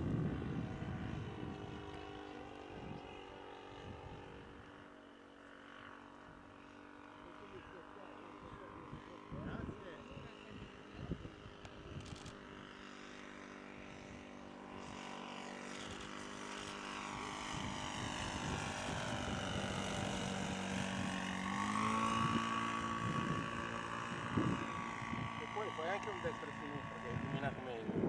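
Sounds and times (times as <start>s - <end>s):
model plane engine droning: 0.0s - 28.0s.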